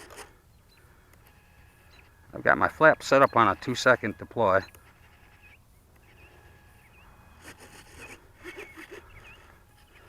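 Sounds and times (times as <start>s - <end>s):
high bird chirps: 1.8s - 10.0s.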